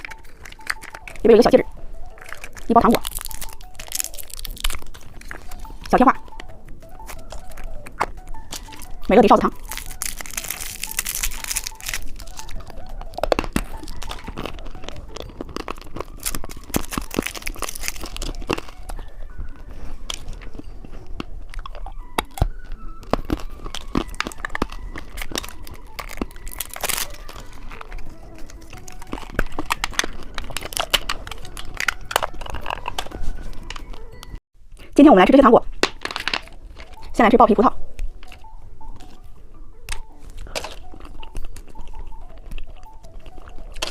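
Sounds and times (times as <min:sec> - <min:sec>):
crinkly wrapper rustle: 0:00.0 - 0:34.9, 0:35.6 - 0:37.2, 0:39.9 - 0:43.9
chewing crunchy candy: 0:00.0 - 0:35.0, 0:35.6 - 0:43.9.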